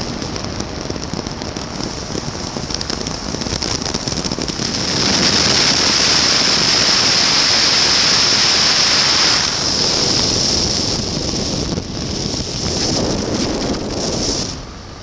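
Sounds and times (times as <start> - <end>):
aircraft engine running: 0.0 - 15.0
wind rushing over microphone: 0.0 - 15.0.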